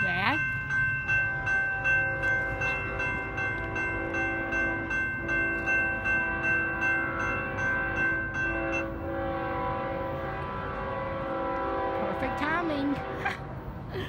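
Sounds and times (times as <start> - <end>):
railroad crossing bell ringing: 0.0 - 13.3.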